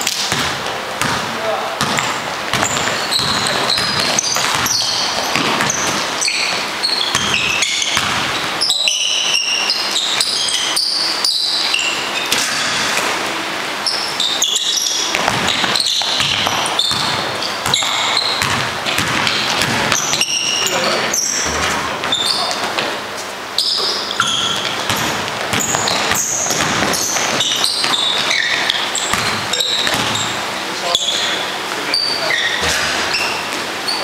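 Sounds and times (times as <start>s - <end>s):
basketball bouncing on court: 0.0s - 23.0s, 23.6s - 31.4s
sneakers squeaking on floor: 0.0s - 34.0s
players calling out: 0.8s - 34.0s.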